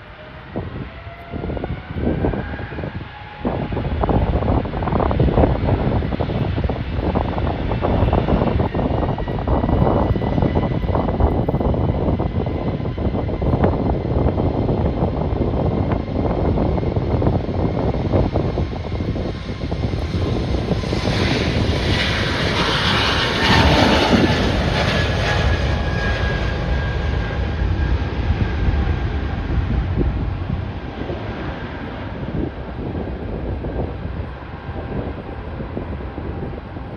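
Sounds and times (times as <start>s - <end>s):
airliner engine passing: 0.0s - 36.9s
wind buffeting microphone: 0.0s - 36.9s.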